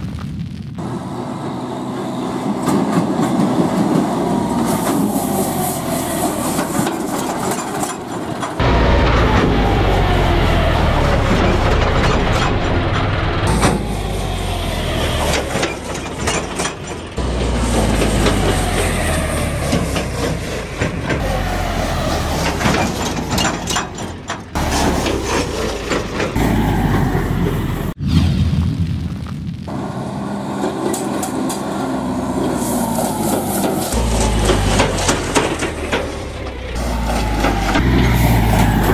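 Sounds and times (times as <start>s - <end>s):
tractor diesel engine running: 0.8s - 28.0s, 29.7s - 38.9s.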